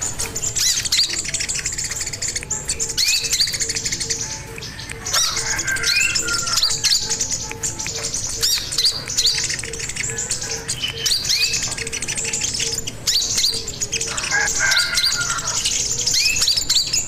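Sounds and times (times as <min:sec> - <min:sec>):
bird singing chirps and trills: 0:00.0 - 0:17.0.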